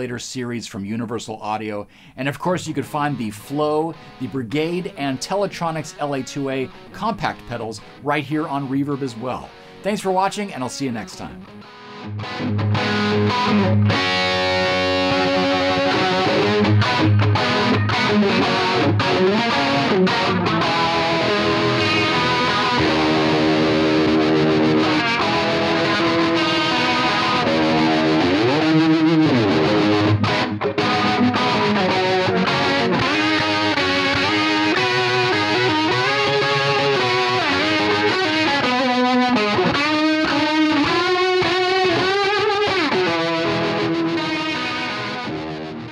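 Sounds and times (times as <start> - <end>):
distorted electric guitar: 1.9 - 45.9.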